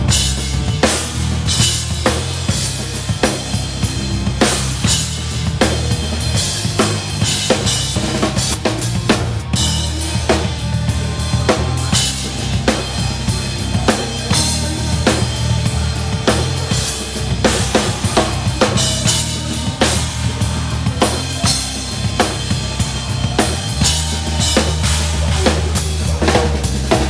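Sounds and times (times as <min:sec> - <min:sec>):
low bass notes: 0:00.0 - 0:27.0.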